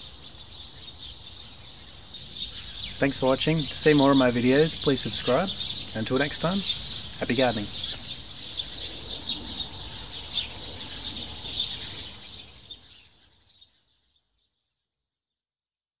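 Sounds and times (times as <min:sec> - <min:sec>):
small birds chirping chorus: 0:00.0 - 0:15.4.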